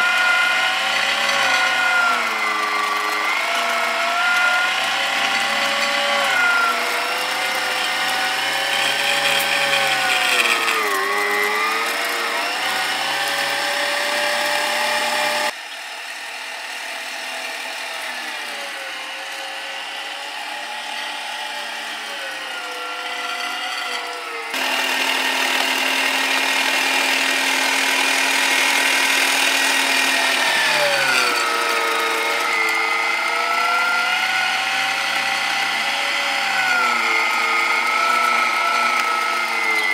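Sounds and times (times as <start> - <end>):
electric meat grinder whining: 0.0 - 39.9.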